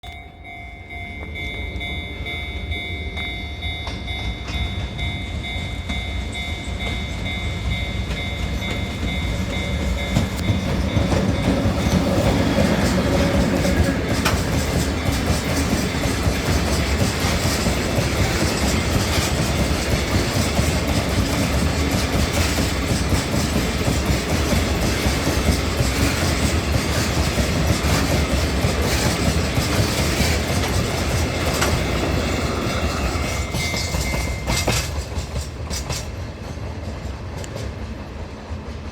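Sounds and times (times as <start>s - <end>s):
train wheels clattering over rail joints: 6.7s - 38.9s.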